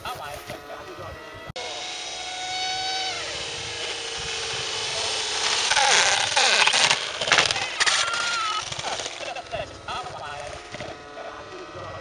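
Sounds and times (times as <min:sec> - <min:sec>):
model plane electric motor whining: 0:00.0 - 0:12.0.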